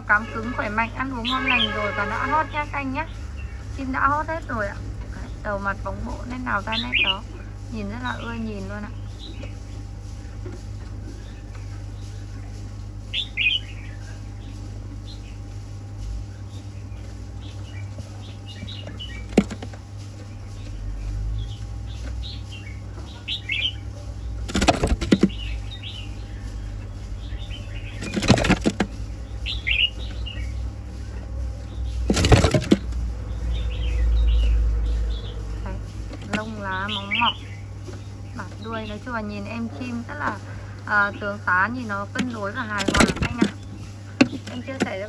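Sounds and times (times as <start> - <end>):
bird chirping: 0.0 - 45.0
steady low hum: 0.0 - 45.0
wing flapping: 0.4 - 40.8, 42.0 - 45.0.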